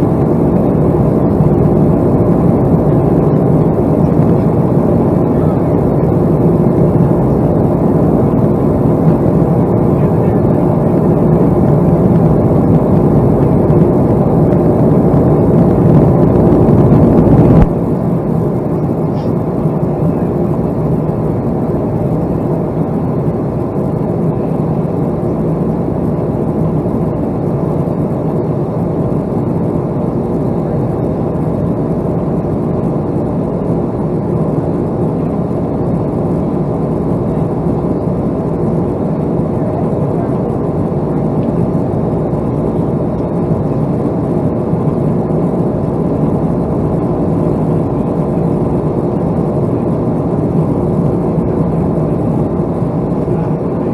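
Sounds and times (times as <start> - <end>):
jet aircraft noise: 0.0 - 53.9.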